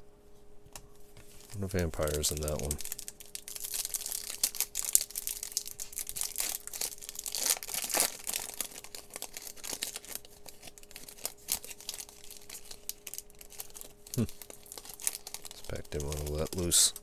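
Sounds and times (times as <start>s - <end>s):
foil wrapper crinkling and tearing: 1.3s - 17.0s.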